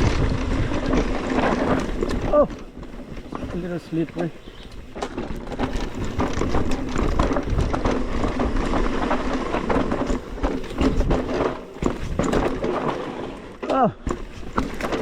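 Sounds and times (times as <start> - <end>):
bike tyres on loose dirt: 0.0 - 15.0
chain and frame rattling: 0.1 - 15.0.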